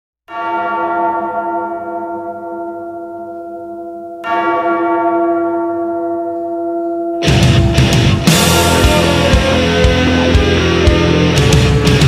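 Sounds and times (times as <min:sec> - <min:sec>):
large bell tolling: 0:00.3 - 0:12.0.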